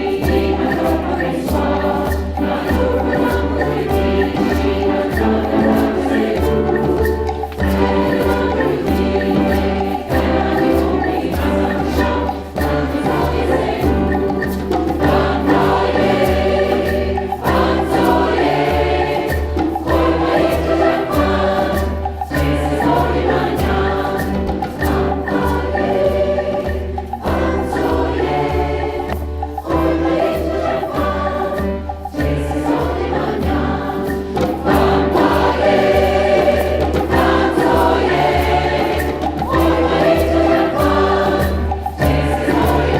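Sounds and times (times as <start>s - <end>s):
choir singing: 0.0s - 42.9s
steady percussion beat: 0.0s - 42.9s.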